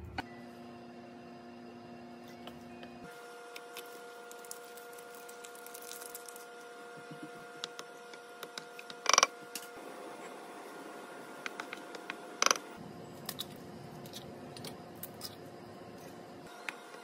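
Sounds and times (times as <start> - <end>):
cooktop electrical whine: 0.0 - 17.0.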